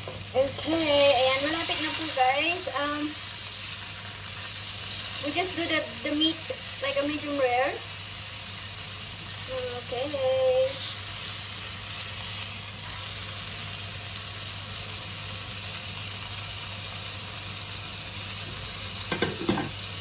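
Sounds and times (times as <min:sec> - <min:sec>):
steak sizzling in a pan: 0:00.0 - 0:20.0.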